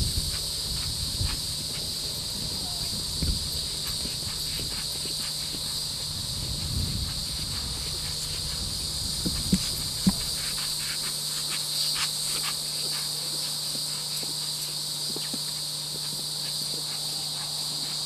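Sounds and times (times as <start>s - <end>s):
high insect drone: 0.0s - 18.0s
pony hoofbeats on grass: 0.0s - 18.0s.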